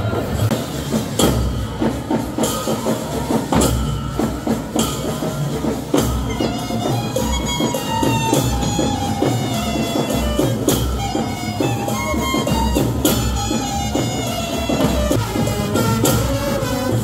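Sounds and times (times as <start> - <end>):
drums and jingling percussion: 0.0 - 17.0
piping wind instrument: 0.0 - 17.0.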